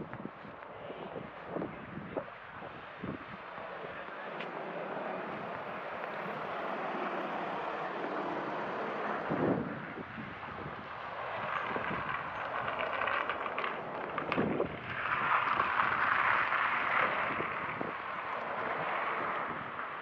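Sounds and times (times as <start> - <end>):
car tyres on paved street: 0.0 - 20.0
street noise: 0.0 - 20.0.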